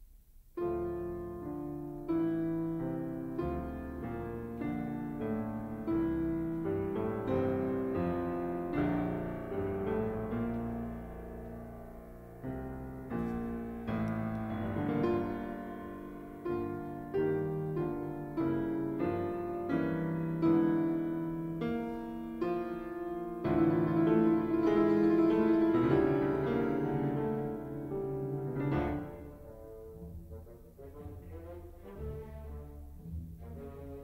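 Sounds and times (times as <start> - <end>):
classical piano music: 0.0 - 34.0.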